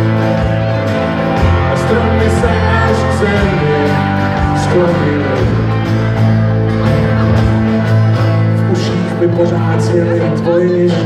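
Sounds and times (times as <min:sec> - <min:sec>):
acoustic guitar: 0:00.0 - 0:11.0
bass guitar: 0:00.0 - 0:11.0
keyboard: 0:00.0 - 0:11.0.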